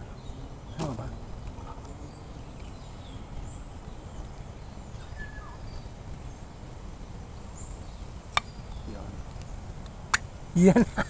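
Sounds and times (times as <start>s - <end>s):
faint bird chirps: 0.0s - 9.7s
outdoor background noise: 0.0s - 11.0s.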